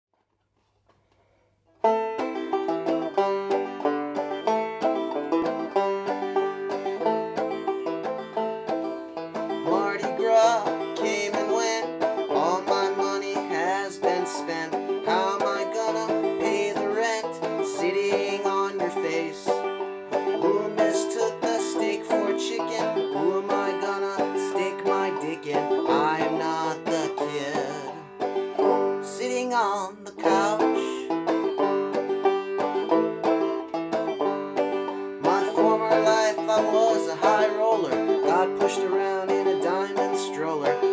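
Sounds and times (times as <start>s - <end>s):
banjo plucking and strumming: 1.8s - 40.9s.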